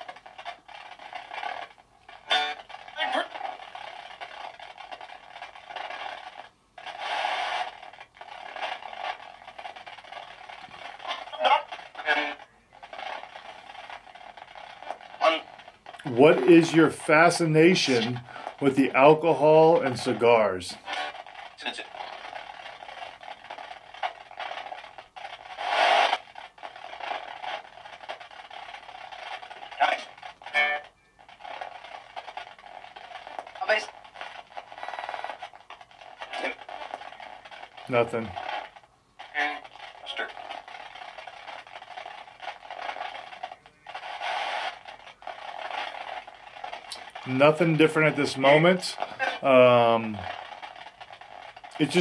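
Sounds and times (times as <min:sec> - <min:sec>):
radio static hissing: 0:00.0 - 0:52.0.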